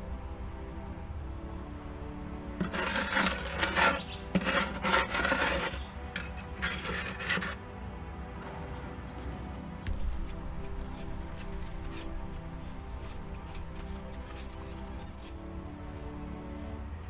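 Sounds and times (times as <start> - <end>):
rasping scraping on cement lining: 2.6 - 16.9.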